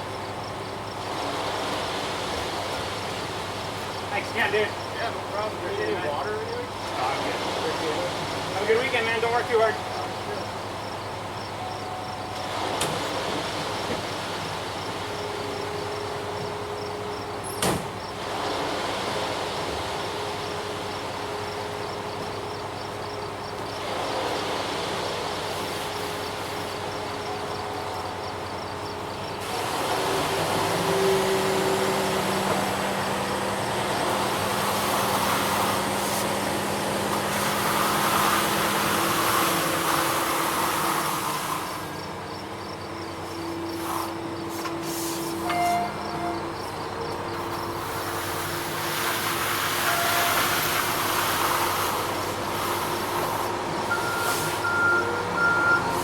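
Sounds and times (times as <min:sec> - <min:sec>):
insects chirping: 0:00.0 - 0:56.0
truck engine running: 0:00.0 - 0:56.0.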